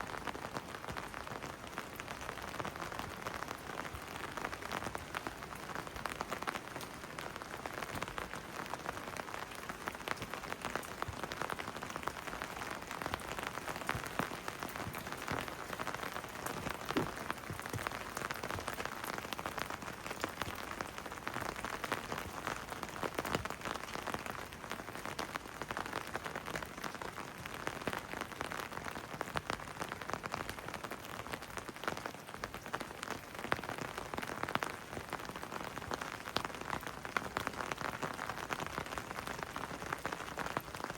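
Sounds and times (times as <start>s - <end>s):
rain on hard surfaces: 0.0s - 40.9s.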